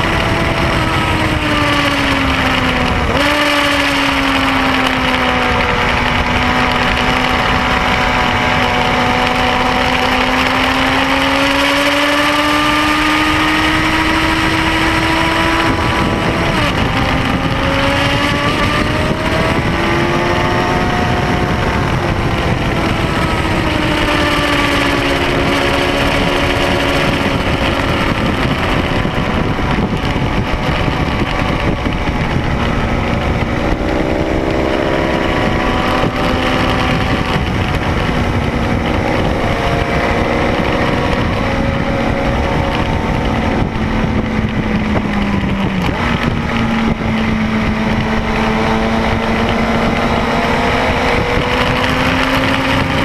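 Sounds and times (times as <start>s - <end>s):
motorcycle engine accelerating: 0.0s - 53.0s
wind rush on camera: 0.0s - 53.0s.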